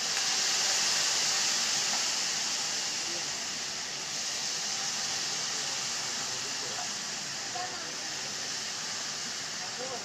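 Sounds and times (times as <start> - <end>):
sauce sizzling in a hot pan: 0.0 - 10.0.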